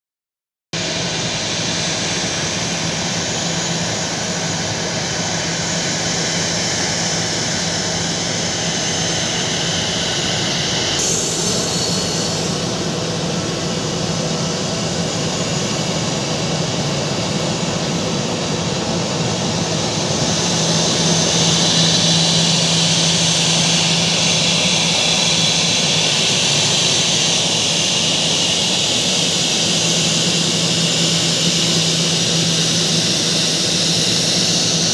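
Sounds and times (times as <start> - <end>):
jet engines at taxi power: 0.8 - 34.9.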